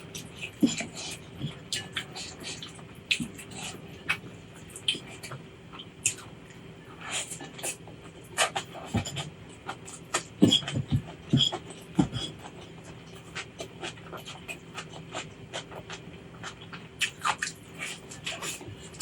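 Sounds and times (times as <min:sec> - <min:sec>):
chewing with wet mouth clicks: 0:00.0 - 0:19.0.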